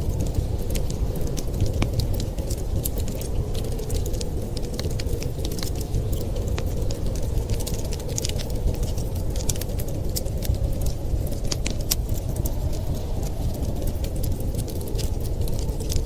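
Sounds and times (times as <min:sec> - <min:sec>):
steady low rumble: 0:00.0 - 0:16.0
wood fire crackling and popping: 0:00.0 - 0:16.0.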